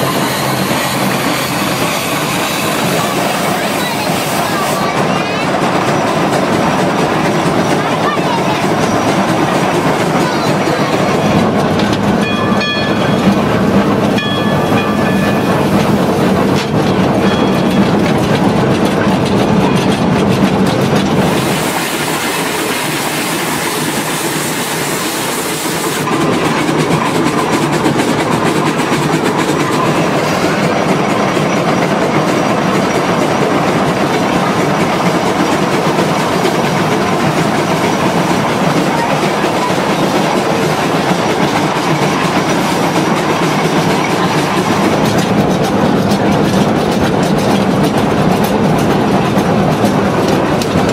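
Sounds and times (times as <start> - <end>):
steam locomotive clattering on rails: 0.0 - 50.9.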